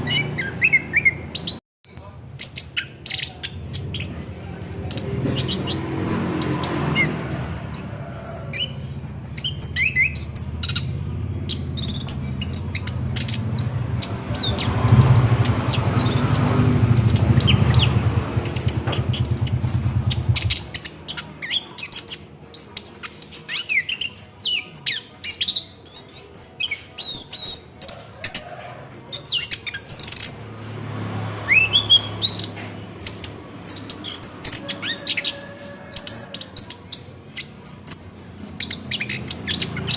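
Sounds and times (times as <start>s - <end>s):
thrush singing: 2.4s - 39.9s.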